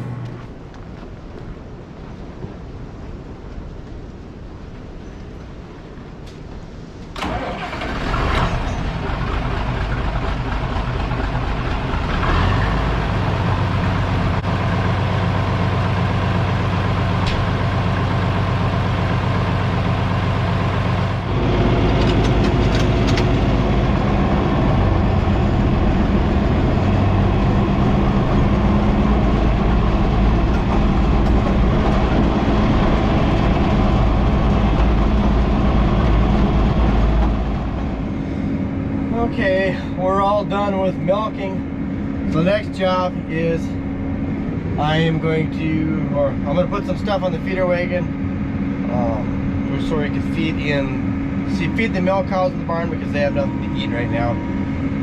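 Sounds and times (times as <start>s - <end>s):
engine idling: 7.2s - 55.0s.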